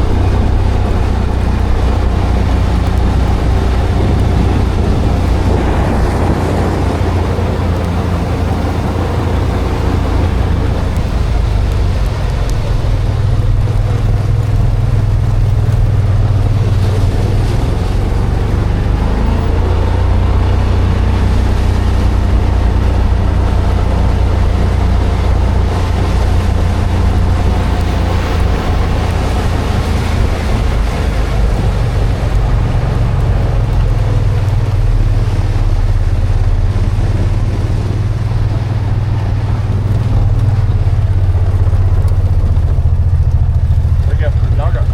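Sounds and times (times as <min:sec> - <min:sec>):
motor engine running: 0:00.0 - 0:44.9.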